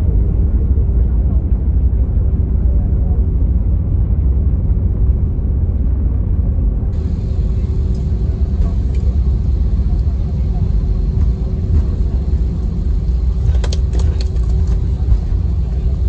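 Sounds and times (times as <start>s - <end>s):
airplane cabin low rumble: 0.0s - 16.0s.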